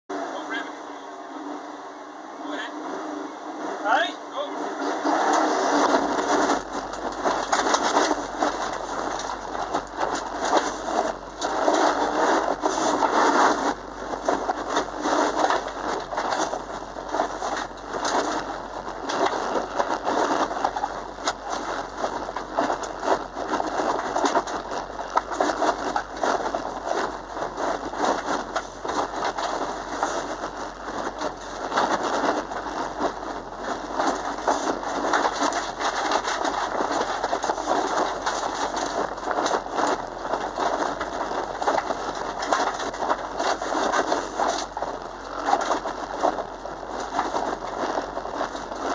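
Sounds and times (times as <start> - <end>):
car engine rush: 0.1 - 48.9
mud and stones pelting car: 2.5 - 48.9.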